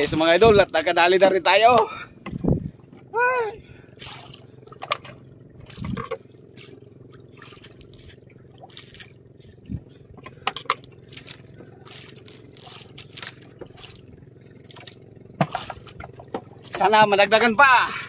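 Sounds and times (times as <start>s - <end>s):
steady low hum: 0.0s - 18.0s
water splashing against boat: 0.0s - 18.0s.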